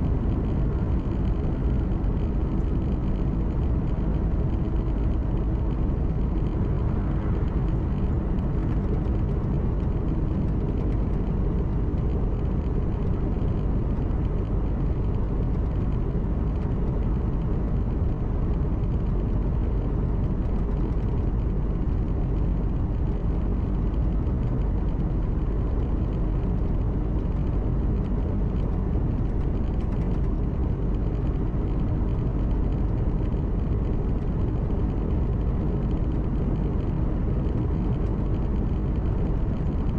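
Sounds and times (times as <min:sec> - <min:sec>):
road noise: 0:00.0 - 0:39.9
truck engine hum: 0:00.0 - 0:39.9.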